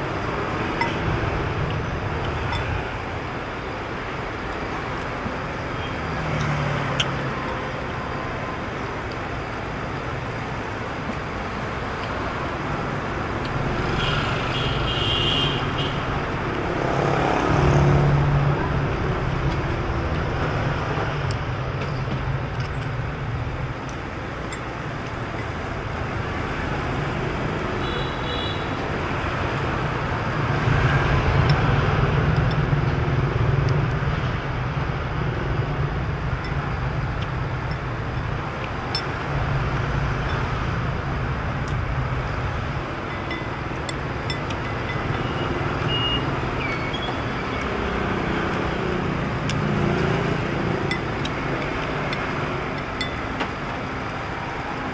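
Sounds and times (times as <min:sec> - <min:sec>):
motorbikes and cars passing: 0:00.0 - 0:54.9.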